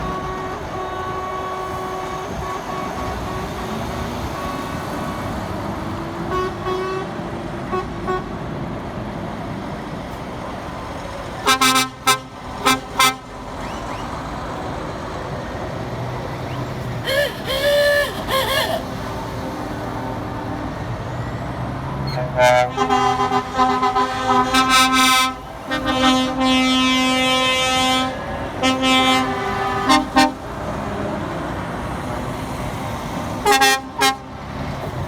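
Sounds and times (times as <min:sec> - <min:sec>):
truck horns: 0:00.0 - 0:08.7, 0:10.1 - 0:35.0
road traffic noise: 0:00.0 - 0:35.0
trucks driving past: 0:00.0 - 0:35.0.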